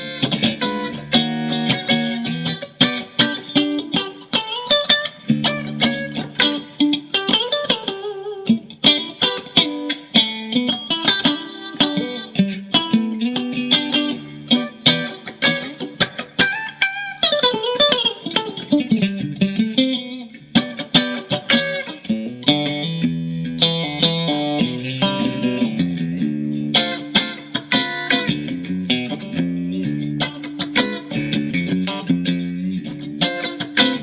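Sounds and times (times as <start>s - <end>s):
electric guitar playing: 0.0s - 34.0s.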